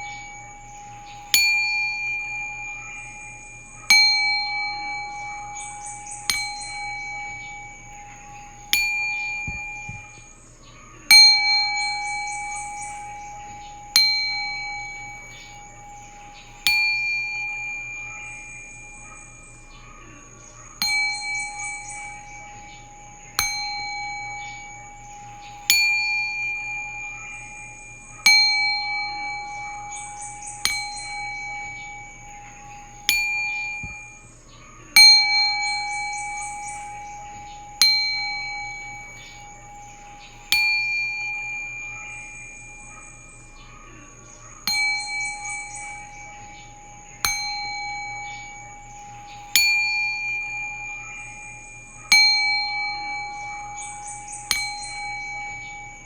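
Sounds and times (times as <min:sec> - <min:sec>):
faint low hum: 0:00.0 - 0:56.0
singing bowl ringing: 0:00.0 - 0:56.0.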